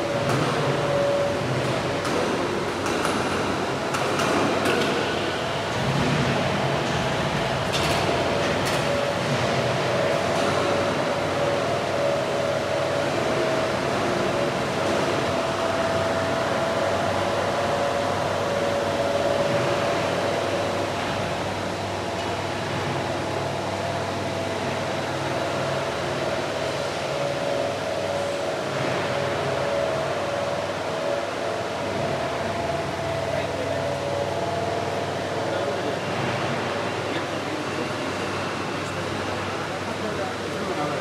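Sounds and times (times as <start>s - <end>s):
machinery hum with faint whine: 0.0s - 41.0s.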